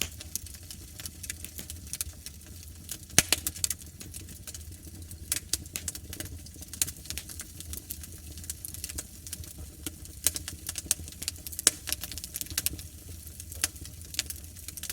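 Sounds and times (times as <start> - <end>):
wood fire crackling and popping: 0.0 - 14.9.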